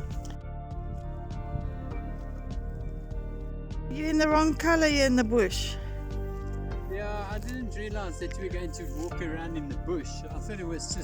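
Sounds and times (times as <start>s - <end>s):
background music with gentle beat: 0.0s - 11.0s.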